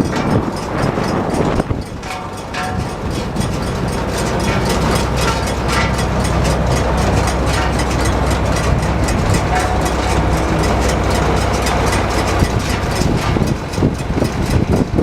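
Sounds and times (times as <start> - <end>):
baler clattering: 0.0 - 15.0
tractor engine humming: 0.0 - 15.0.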